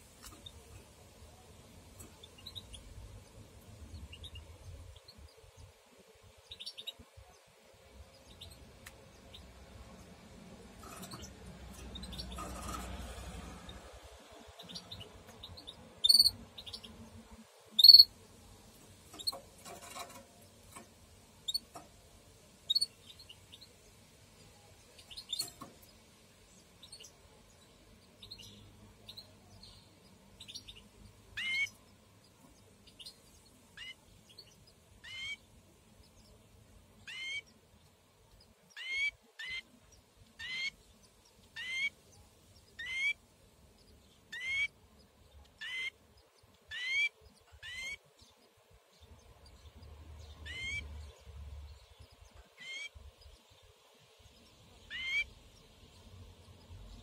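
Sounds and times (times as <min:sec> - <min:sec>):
canary chirping: 0:00.1 - 0:57.0.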